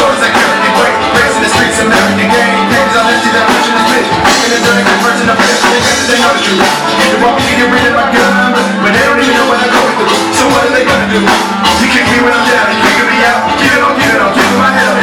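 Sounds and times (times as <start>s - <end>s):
live hip-hop band music: 0.0s - 15.0s.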